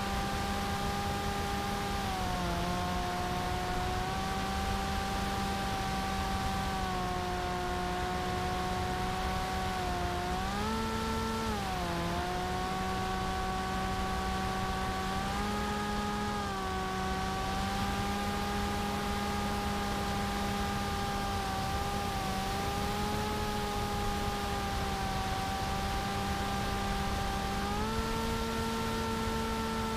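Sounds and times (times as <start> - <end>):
electric motor propeller whine: 0.0 - 29.9.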